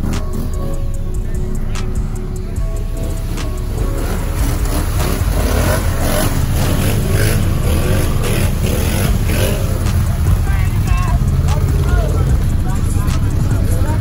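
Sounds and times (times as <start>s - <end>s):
atv engines revving: 0.0s - 14.0s.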